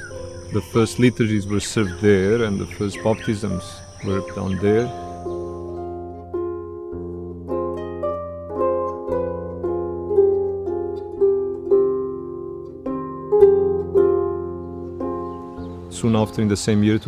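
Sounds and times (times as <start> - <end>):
plucked melody: 0.0 - 17.0.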